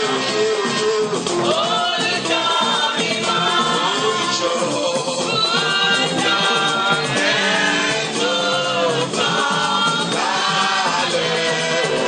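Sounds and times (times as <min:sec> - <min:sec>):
congregation singing a hymn: 0:00.0 - 0:12.0.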